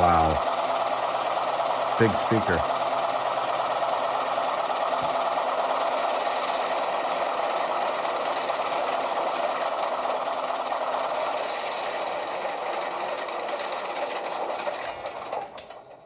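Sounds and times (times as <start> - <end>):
simulated diesel locomotive engine: 0.0 - 16.0.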